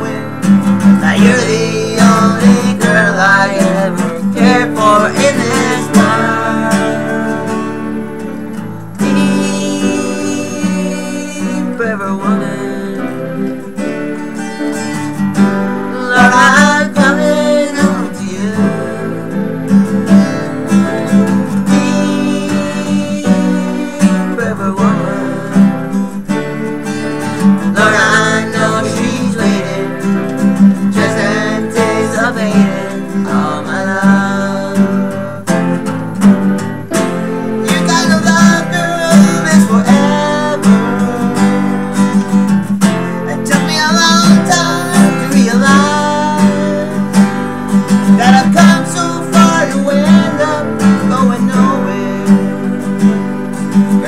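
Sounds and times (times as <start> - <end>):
acoustic guitar strumming: 0.0 - 54.0
keyboard playing: 0.0 - 54.0.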